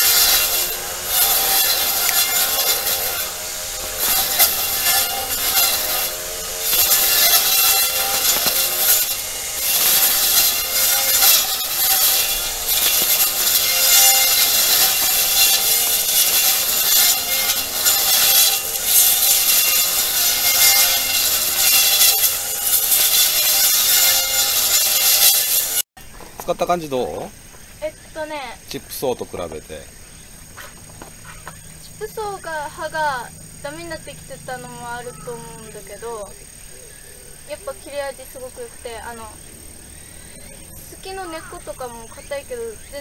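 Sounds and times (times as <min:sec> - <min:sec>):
brush cutter cutting weeds: 0:00.0 - 0:25.9, 0:30.4 - 0:36.5, 0:37.4 - 0:43.0.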